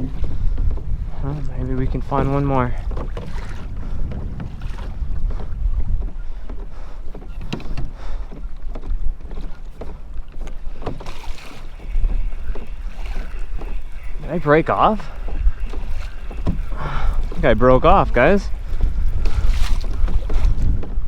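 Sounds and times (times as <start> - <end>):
water lapping against boat hull: 0.0 - 21.0
wind buffeting microphone: 0.0 - 21.0.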